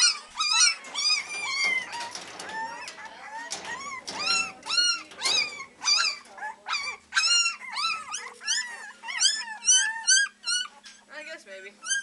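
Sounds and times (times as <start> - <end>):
puppies baying and yelping: 0.0 - 12.0.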